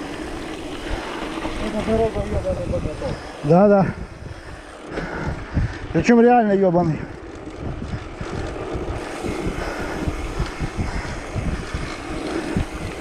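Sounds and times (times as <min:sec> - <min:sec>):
tyres rumbling on rough road: 0:00.0 - 0:13.0
wind buffeting microphone: 0:00.0 - 0:13.0.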